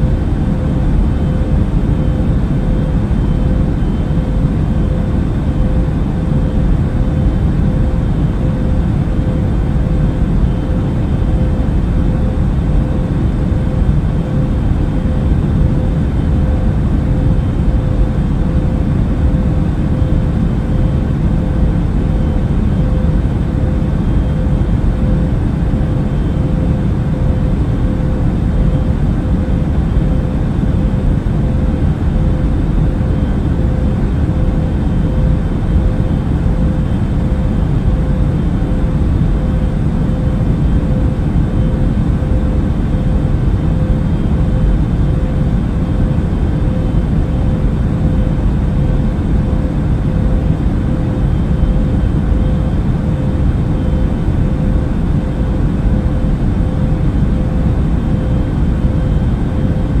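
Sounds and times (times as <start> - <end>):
airplane cabin drone: 0.0 - 60.0.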